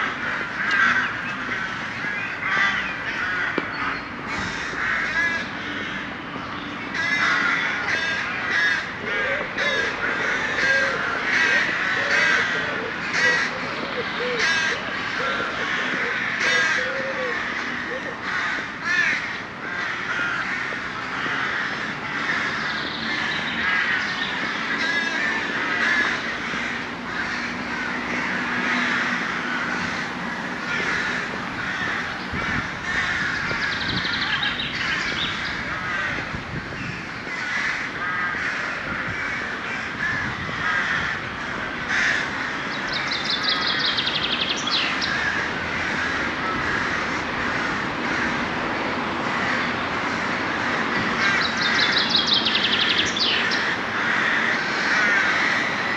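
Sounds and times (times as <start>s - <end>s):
flock of crows cawing: 0.0s - 55.9s.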